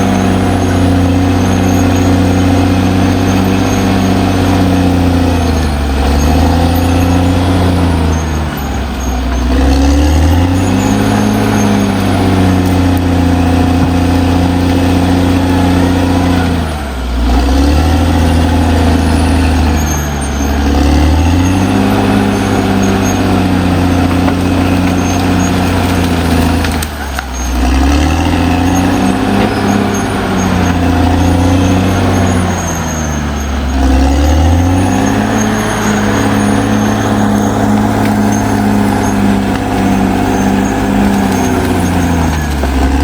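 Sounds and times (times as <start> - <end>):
bulldozer diesel engine under load: 0.0 - 43.0.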